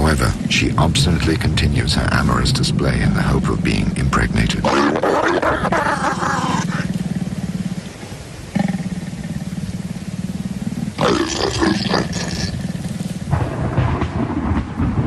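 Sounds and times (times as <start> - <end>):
leopards snarling: 0.0 - 13.4
leopard rasping rumble: 0.0 - 15.0.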